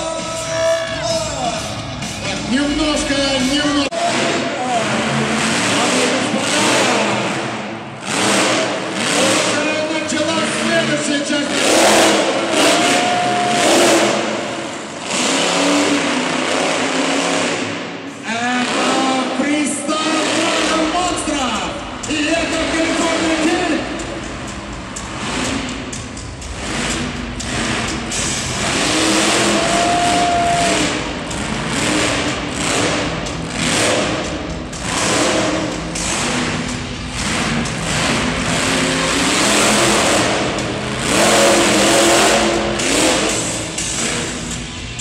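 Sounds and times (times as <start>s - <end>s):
truck engine revving hard: 1.6s - 45.0s.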